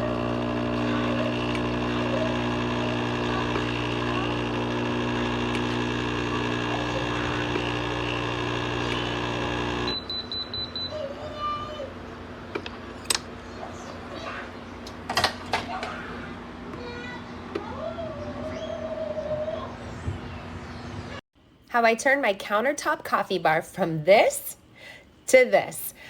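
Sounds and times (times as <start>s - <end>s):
machine hum: 0.0s - 21.2s.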